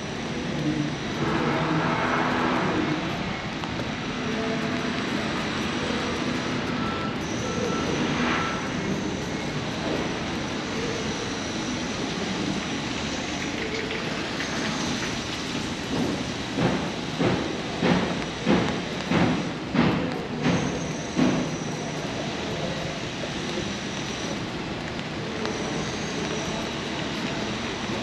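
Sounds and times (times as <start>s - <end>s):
hiss of rain-wet street: 0.0s - 28.0s
footsteps on wet pavement: 0.1s - 28.0s.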